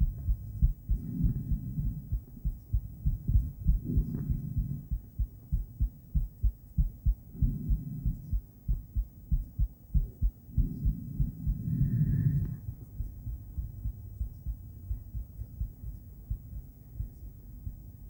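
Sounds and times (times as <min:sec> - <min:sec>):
heartbeat thumps through doppler: 0:00.0 - 0:18.0.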